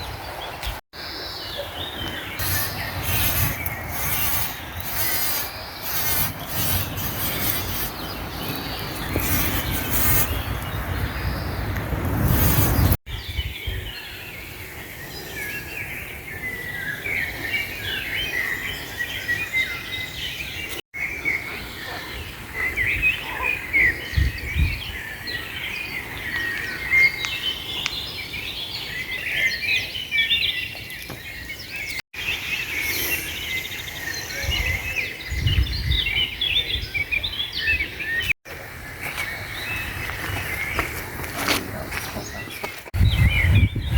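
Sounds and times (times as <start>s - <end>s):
small birds chirping and singing: 0.0s - 43.9s.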